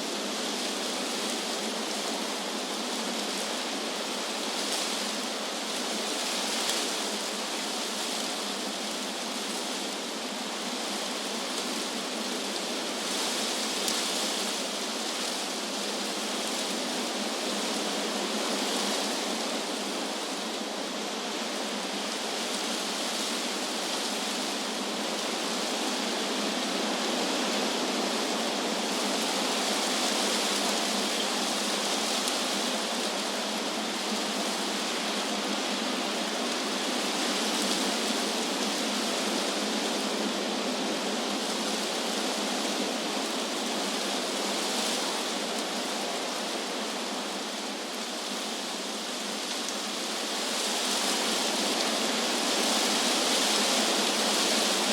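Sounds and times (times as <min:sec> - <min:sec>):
wind rushing through leaves: 0:00.0 - 0:54.9.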